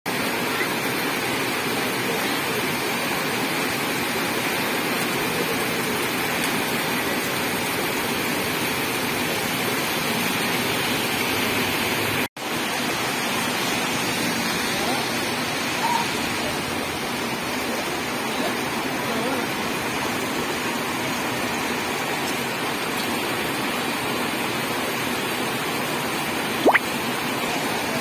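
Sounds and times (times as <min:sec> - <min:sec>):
heavy rain on flooded road: 0:00.1 - 0:28.0.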